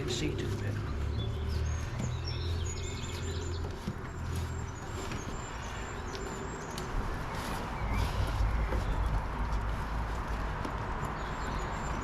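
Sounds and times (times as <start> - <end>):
birds chirping and singing: 0.0 - 12.0.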